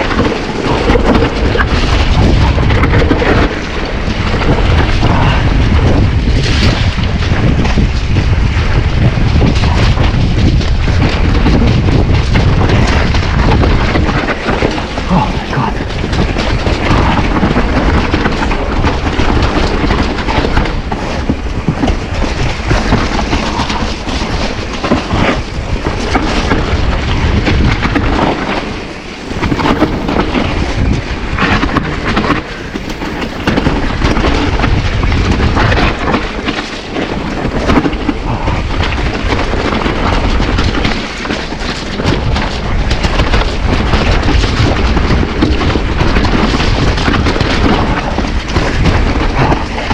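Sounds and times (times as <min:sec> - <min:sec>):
bike rattling and knocking: 0:00.0 - 0:49.9
bike tyres rumbling on trail: 0:00.0 - 0:49.9
wind blasting over microphone: 0:00.0 - 0:49.9.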